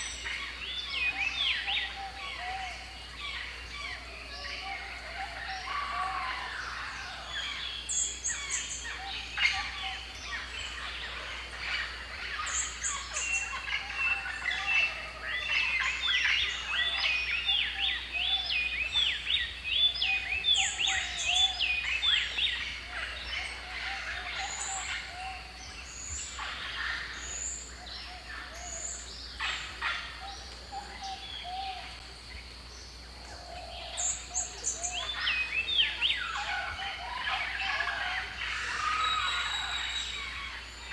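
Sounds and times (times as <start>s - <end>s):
birds calling and chirping: 0.0s - 40.9s.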